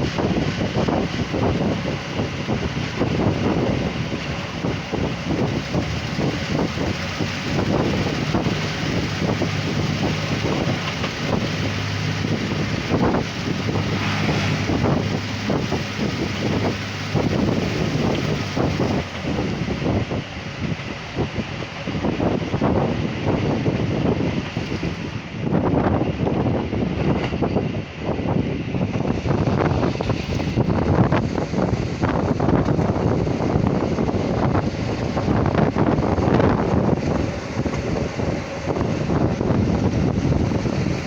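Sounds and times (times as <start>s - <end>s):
low engine hum: 0.0s - 41.0s
train rumbling on rails: 0.0s - 41.0s
wind buffeting microphone: 0.0s - 41.0s.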